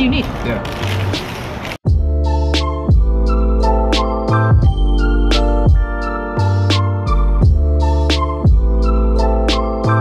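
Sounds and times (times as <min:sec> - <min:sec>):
background music with beat: 0:01.8 - 0:10.0.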